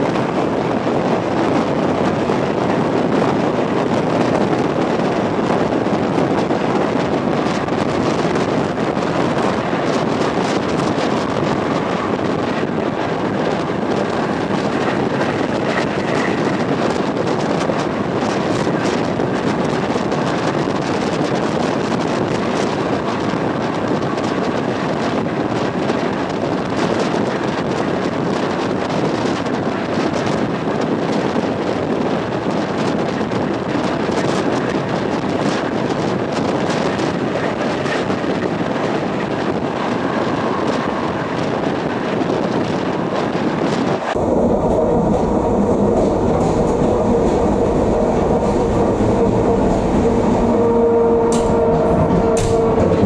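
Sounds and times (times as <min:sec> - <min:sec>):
train running at speed: 0:00.0 - 0:53.0.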